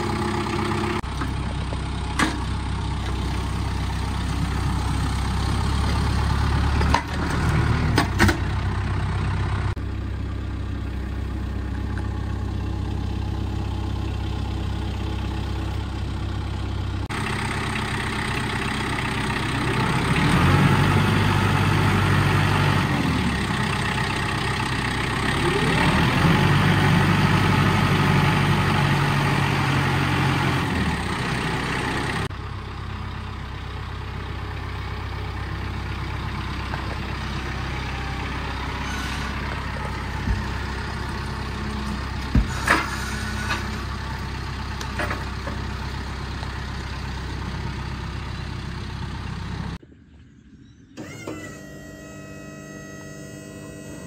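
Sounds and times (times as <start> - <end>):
tractor diesel engine revving: 0.0 - 49.8, 51.0 - 54.0.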